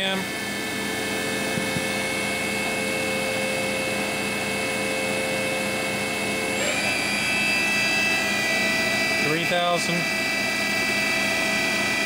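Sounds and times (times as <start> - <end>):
machine spindle whining: 0.0 - 12.0.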